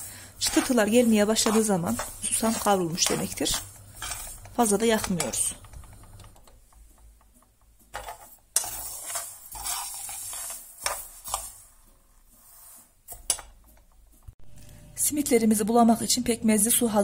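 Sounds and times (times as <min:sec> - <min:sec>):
spoon stirring seeds in a pan: 0:00.0 - 0:14.1.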